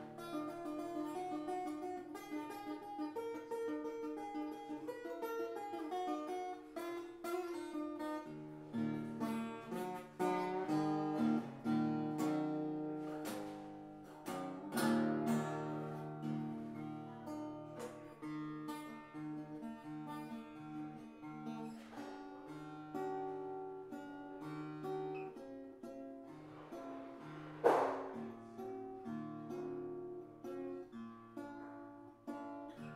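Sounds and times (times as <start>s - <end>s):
acoustic guitar playing bluesy melody: 0.0s - 32.9s.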